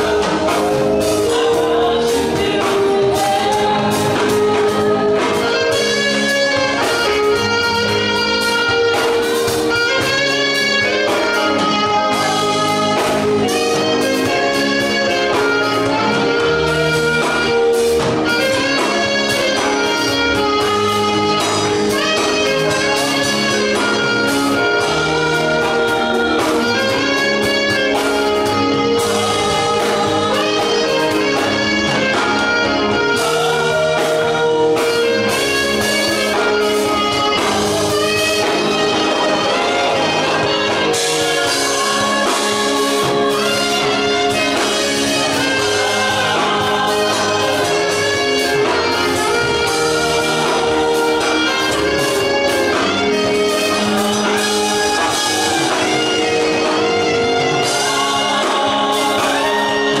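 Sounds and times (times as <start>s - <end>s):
band playing worship song: 0.0s - 60.0s
saxophone melody: 0.0s - 60.0s.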